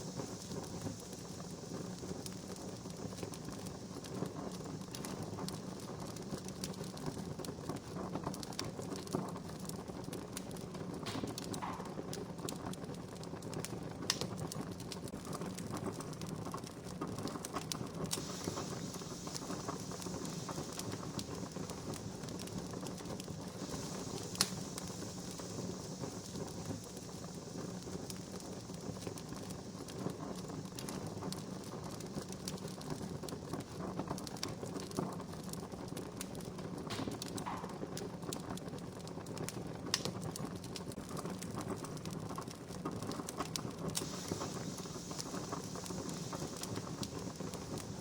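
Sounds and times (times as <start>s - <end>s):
campfire crackling and popping: 0.0s - 48.0s
steady fire hiss: 0.0s - 48.0s.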